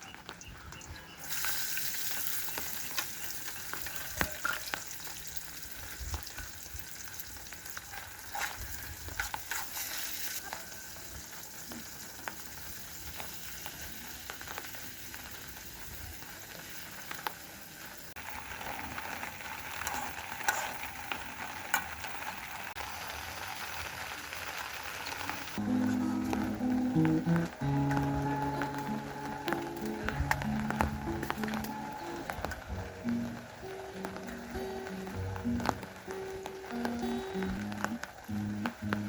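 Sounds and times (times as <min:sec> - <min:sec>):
food sizzling in a pan: 0:01.2 - 0:39.0.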